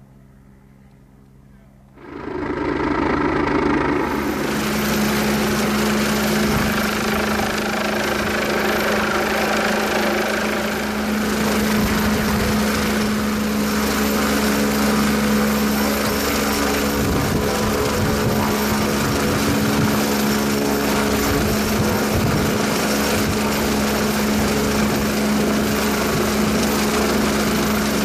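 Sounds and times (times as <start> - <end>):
helicopter hovering: 2.0 - 28.0.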